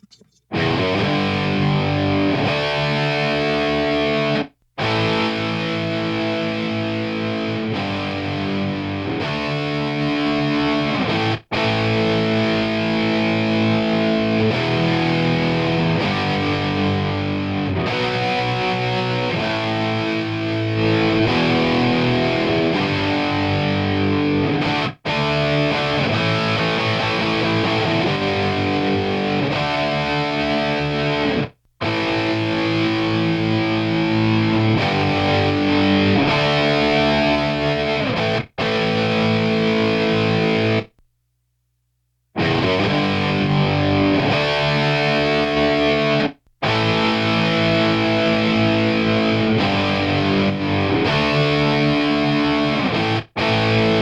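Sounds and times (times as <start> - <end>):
distorted electric guitar power chords: 0.5 - 40.9, 42.4 - 54.0.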